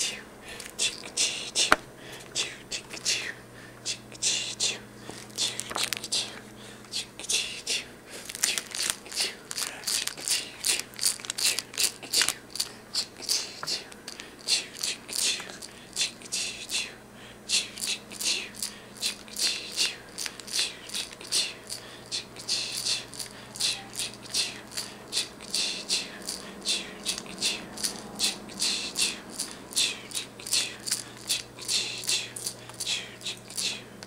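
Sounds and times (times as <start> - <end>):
person shushing rhythmically: 0.0 - 1.8, 2.4 - 34.0.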